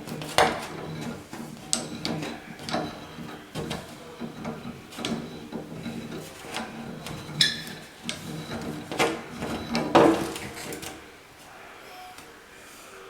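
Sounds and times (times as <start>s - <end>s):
wrench clicking and scraping metal: 0.0s - 11.1s.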